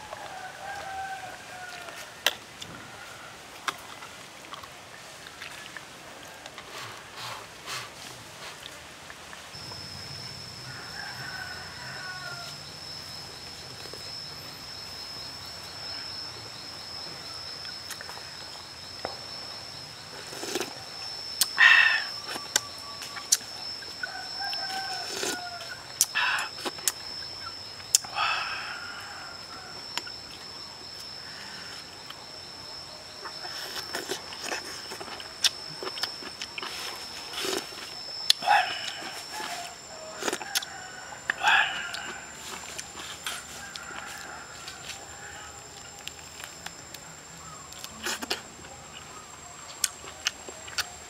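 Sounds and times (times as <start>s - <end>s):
steady high-pitched whine: 0.0s - 51.0s.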